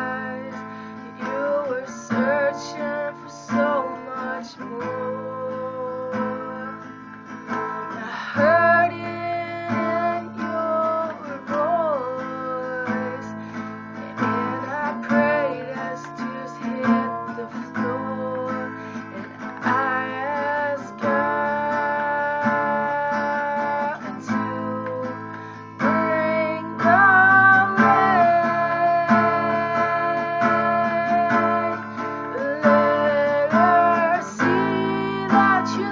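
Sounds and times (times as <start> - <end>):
strummed acoustic guitar: 0.0 - 35.9
woman singing: 0.0 - 35.9.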